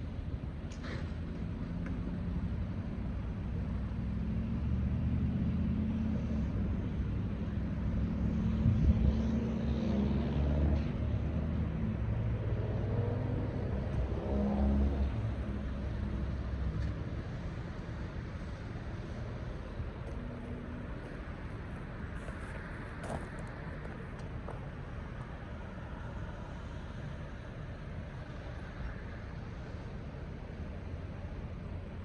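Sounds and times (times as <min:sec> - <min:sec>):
diesel locomotive engine rumbling: 0:00.0 - 0:09.2, 0:10.8 - 0:32.0.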